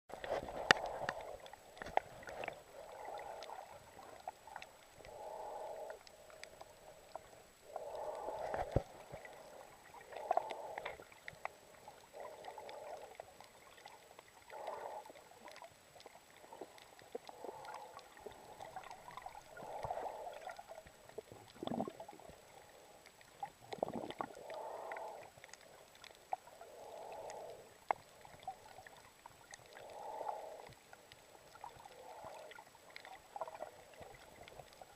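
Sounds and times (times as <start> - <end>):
water sloshing and gurgling: 0.1 - 34.9.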